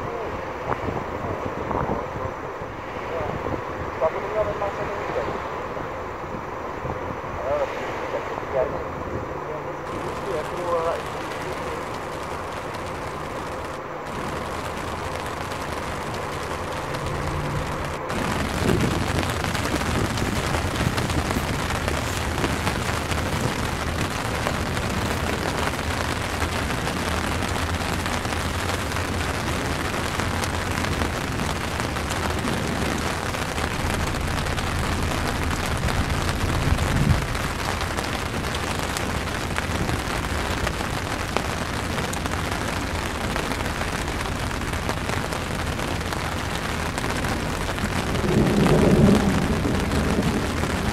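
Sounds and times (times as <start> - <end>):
strong wind on microphone: 0.0 - 50.9.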